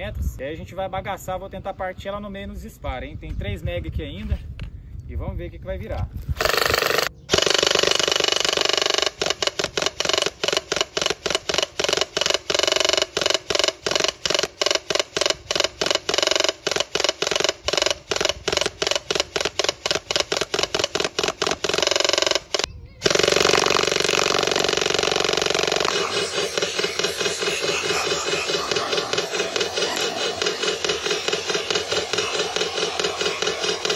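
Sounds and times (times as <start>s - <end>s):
airsoft gun firing full-auto: 6.4s - 33.9s.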